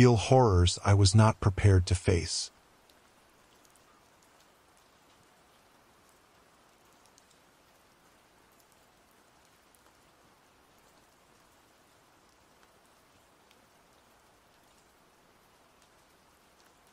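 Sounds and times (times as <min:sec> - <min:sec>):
faint steady rain: 0:00.0 - 0:16.9
light ticks of raindrops: 0:00.0 - 0:16.9.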